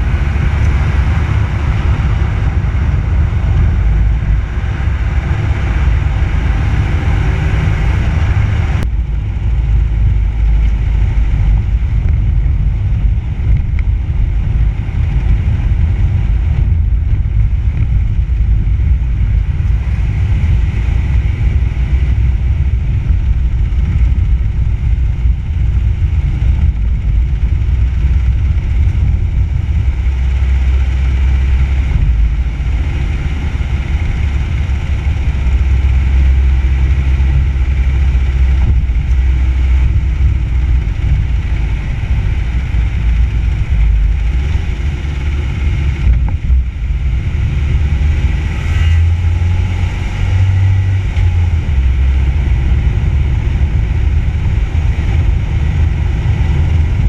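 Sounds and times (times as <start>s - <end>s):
tyres on tarmac: 0.0s - 57.0s
wind buffeting microphone: 0.0s - 57.0s.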